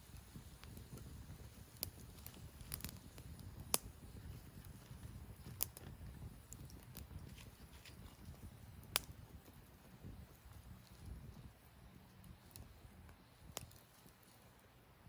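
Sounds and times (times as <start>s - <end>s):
campfire crackling and popping: 0.0s - 14.8s
low steady rumble: 0.0s - 15.0s.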